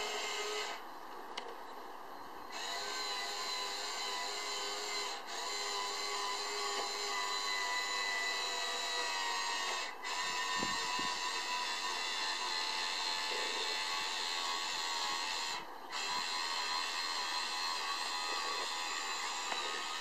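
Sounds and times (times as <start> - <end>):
small electric motor whining: 0.0 - 0.9, 2.5 - 20.0.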